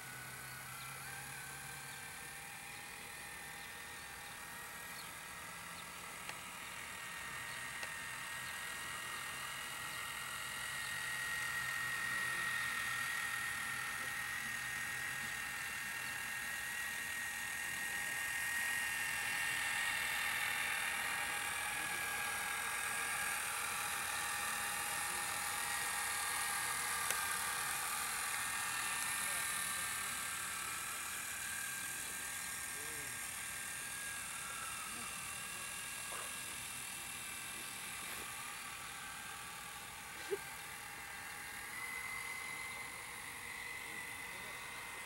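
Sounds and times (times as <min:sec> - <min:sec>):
small electric motor whining: 0:00.0 - 0:45.0.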